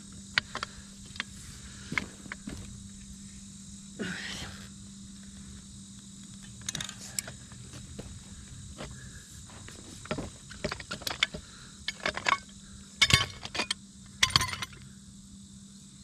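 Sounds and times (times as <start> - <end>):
insect buzzing: 0.0 - 16.0
low constant hum: 0.0 - 16.0.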